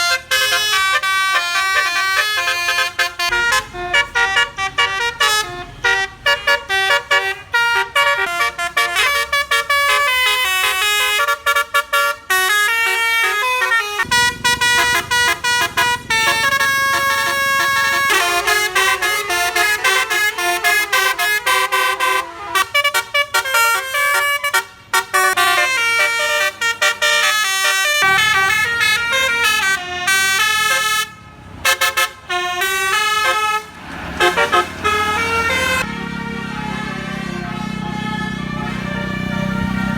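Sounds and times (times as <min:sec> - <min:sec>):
bus musical air horn: 0:00.0 - 0:39.9.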